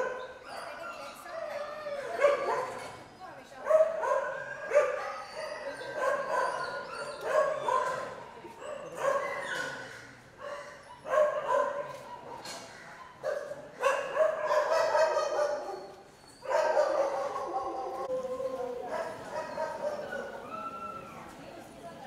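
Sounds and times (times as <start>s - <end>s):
dogs barking and yelping: 0.0s - 21.2s.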